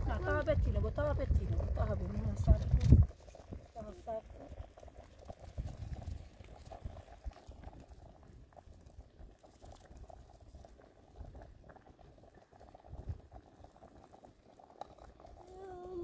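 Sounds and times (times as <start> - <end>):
food bubbling in a pot: 0.0 - 16.0.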